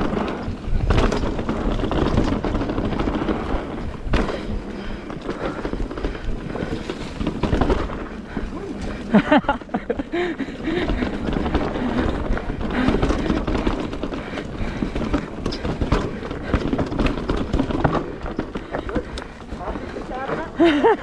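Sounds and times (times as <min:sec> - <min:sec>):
mountain bike rattling over rocks: 0:00.0 - 0:21.0.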